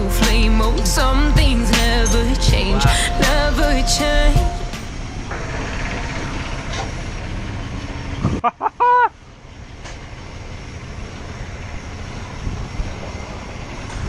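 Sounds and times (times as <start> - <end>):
traffic and street noise: 0.0 - 14.0.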